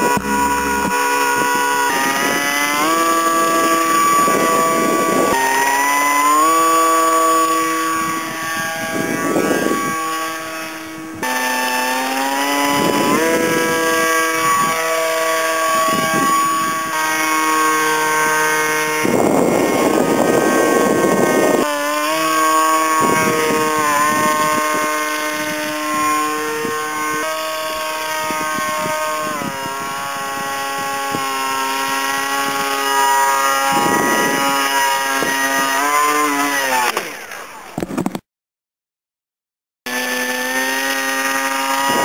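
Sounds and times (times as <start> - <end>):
wind rumbling on microphone: 0.0 - 37.0, 40.7 - 42.0
model plane motor whining: 0.0 - 38.2, 39.9 - 42.0.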